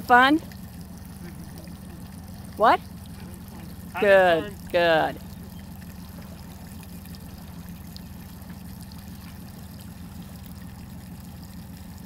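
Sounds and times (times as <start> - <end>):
boat motor humming: 0.0 - 12.0
water splashing along hull: 0.0 - 12.0.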